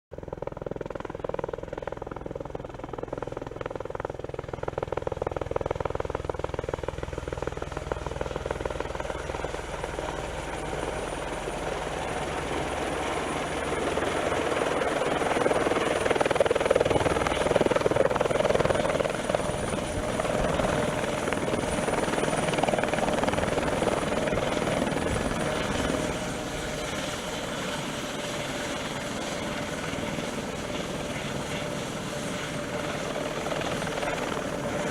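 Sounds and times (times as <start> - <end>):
helicopter rotor beat: 0.1 - 34.9
helicopter turbine whine: 0.1 - 34.9.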